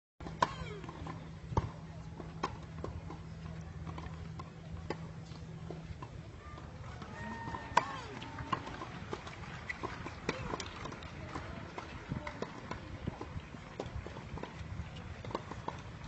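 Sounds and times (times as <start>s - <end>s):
tennis ball bouncing on court: 0.2s - 16.0s.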